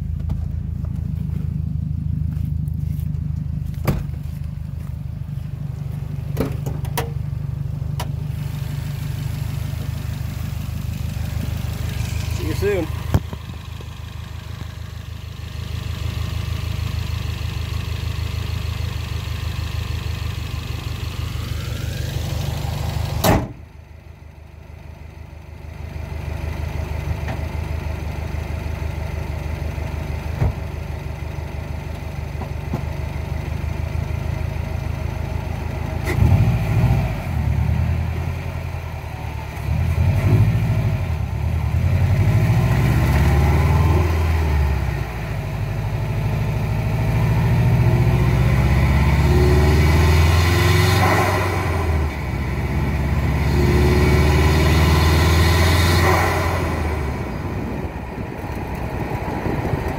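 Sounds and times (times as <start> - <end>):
car engine idling: 0.0 - 36.2, 37.0 - 59.9.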